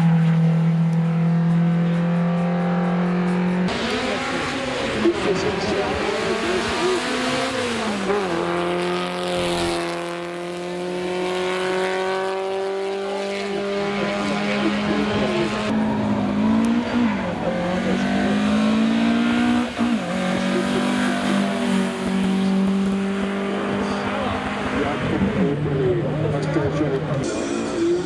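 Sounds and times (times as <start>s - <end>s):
racing car engine at high revs: 0.0s - 27.3s.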